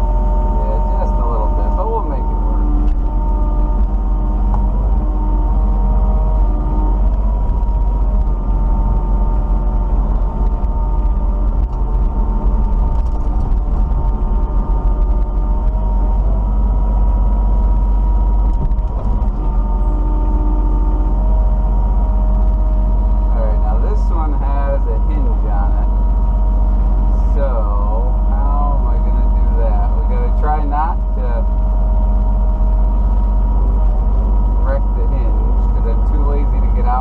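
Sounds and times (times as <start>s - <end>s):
diesel engine running: 0.0s - 37.0s
hydraulic whine: 0.0s - 37.0s.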